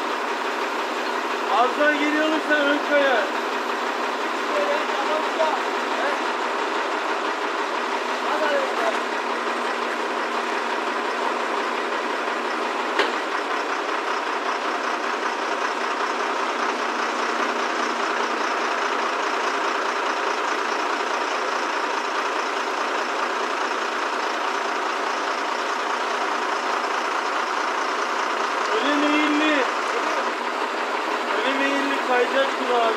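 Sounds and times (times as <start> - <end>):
crane engine running: 0.0 - 32.9.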